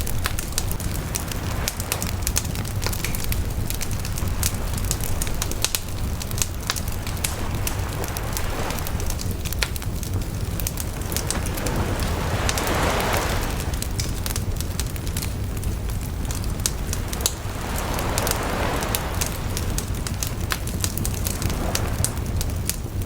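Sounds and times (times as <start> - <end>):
bonfire crackling and popping: 0.0 - 23.0
low rush of flame: 0.0 - 23.0.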